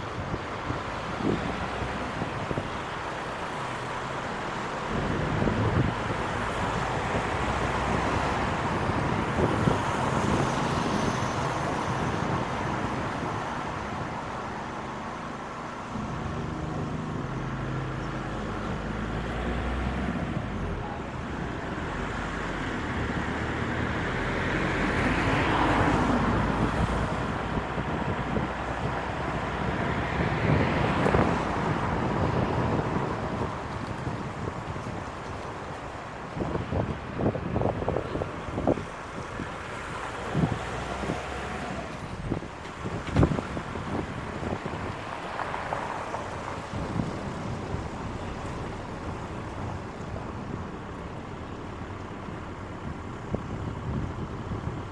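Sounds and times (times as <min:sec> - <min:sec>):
tyre and road noise: 0:00.0 - 0:54.9.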